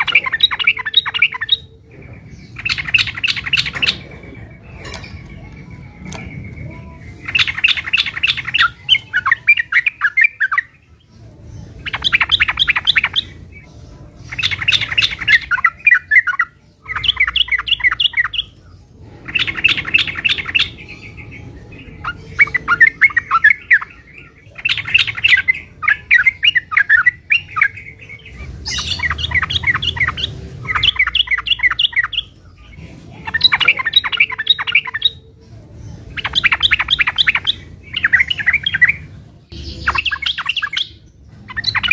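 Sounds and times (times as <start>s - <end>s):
bulbul chattering song: 0.0s - 41.9s.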